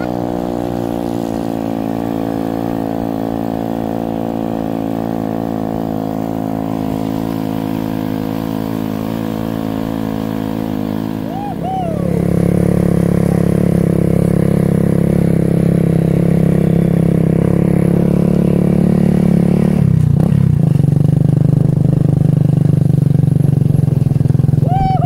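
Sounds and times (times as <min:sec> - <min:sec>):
small motorcycle engine running: 0:00.0 - 0:25.0.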